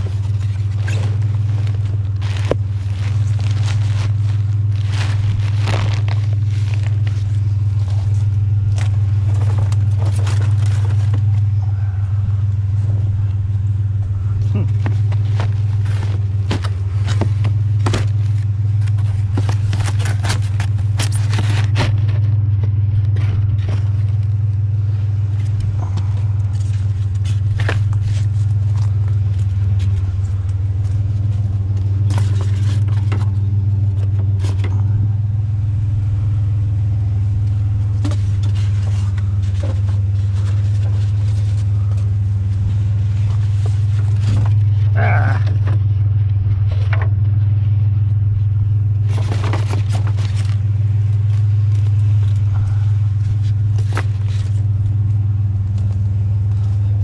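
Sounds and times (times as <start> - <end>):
rattles and clicks: 0.0 - 57.0
truck engine and road rumble: 0.0 - 57.0.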